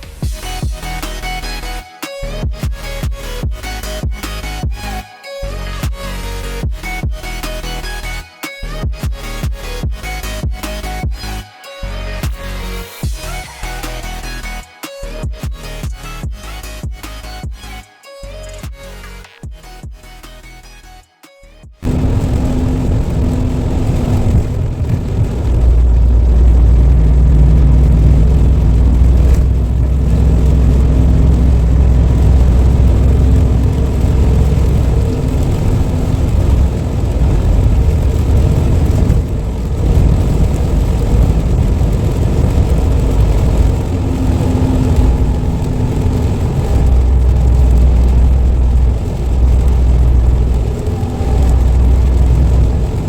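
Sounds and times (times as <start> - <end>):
road noise: 0.0 - 19.2, 21.8 - 53.0
truck diesel engine driving: 0.0 - 19.2, 21.8 - 53.0.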